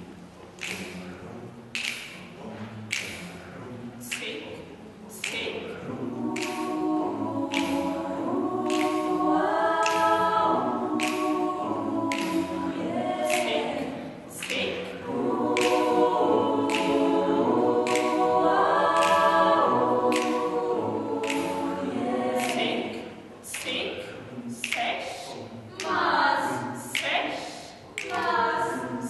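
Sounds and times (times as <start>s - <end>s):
vocal ensemble singing a cappella: 0.0s - 29.0s.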